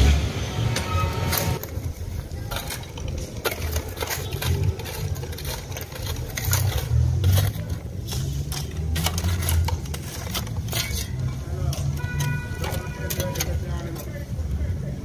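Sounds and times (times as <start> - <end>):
metal shovels scraping gravel: 0.0 - 14.3.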